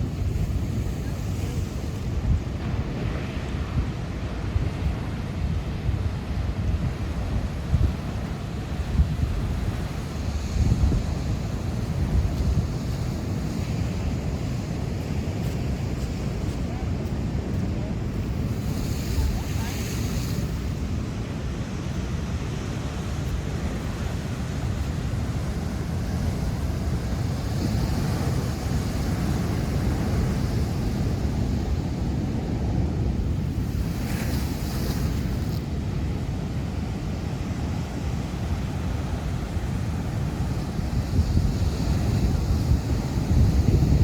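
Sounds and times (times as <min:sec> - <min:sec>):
wind buffeting microphone: 0:00.0 - 0:44.0
ocean surf breaking: 0:05.6 - 0:44.0.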